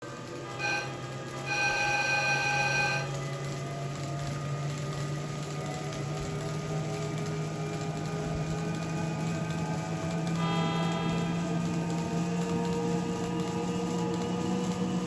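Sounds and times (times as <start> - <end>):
model trains humming: 0.0 - 15.0.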